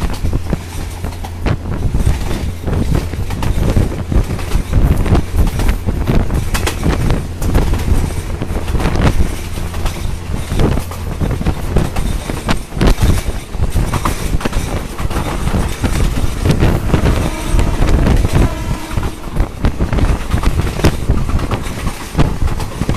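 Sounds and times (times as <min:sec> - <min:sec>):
train knocks and clatter: 0:00.0 - 0:22.9
train running rumble: 0:00.0 - 0:22.9
wind buffeting a microphone: 0:00.0 - 0:22.9.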